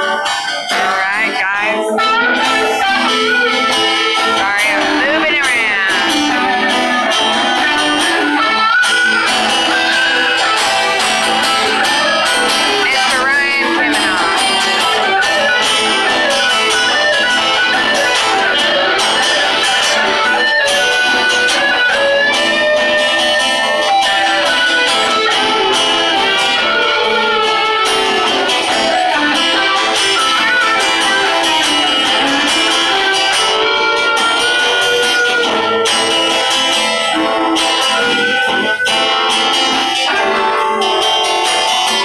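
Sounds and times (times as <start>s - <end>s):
saxophone: 0.0s - 42.0s
strummed guitars: 0.0s - 42.0s.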